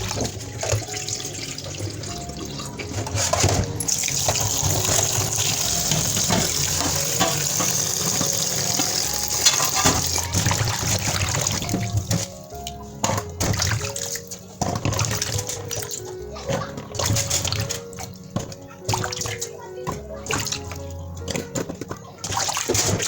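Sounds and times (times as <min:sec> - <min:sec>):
tap water running into sink: 0:00.0 - 0:23.0.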